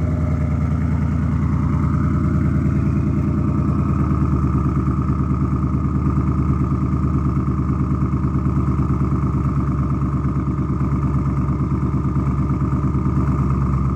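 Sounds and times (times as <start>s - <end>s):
engine idling with lumpy pulse: 0.0s - 13.9s.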